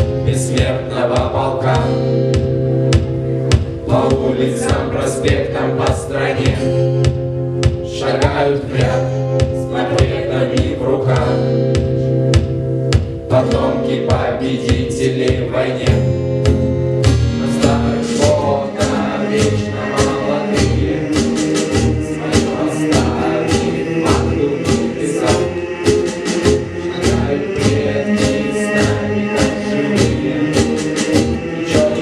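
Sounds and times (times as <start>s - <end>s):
group of voices singing: 0.0s - 2.3s, 3.8s - 12.2s, 13.3s - 32.0s
song with drums and bass: 0.0s - 32.0s.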